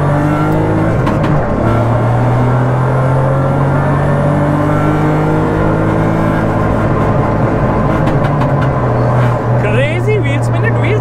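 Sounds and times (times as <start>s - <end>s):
rally car engine and exhaust: 0.0s - 11.0s.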